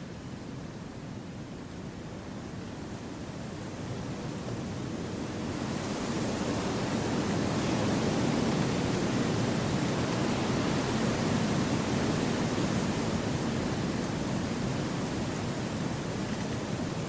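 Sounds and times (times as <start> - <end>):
steady wind: 0.1 - 17.0.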